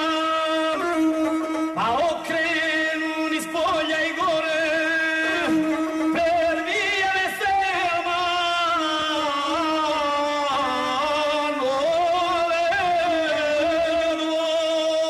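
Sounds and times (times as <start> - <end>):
bowed fiddle melody: 0.0 - 15.0
man chanting: 0.0 - 15.0.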